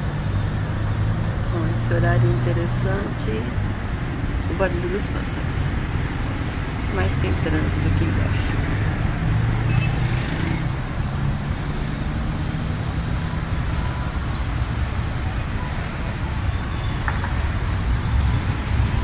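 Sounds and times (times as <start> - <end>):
birds chirping: 0.0 - 18.8
road traffic rumble: 0.0 - 19.0.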